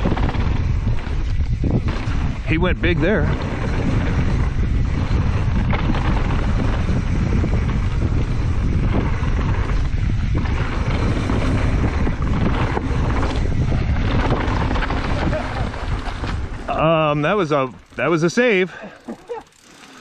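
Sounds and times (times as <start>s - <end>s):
wind buffeting microphone: 0.0s - 18.0s
bike knocks and rattles: 0.0s - 18.2s
bike tyres rumbling on trail: 0.0s - 20.0s.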